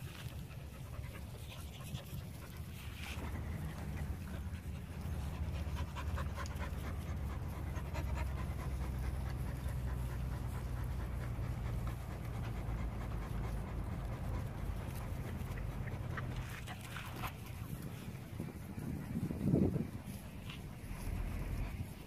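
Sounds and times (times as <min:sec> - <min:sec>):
dogs panting: 0:00.0 - 0:22.0
steady low rumble: 0:00.0 - 0:22.0.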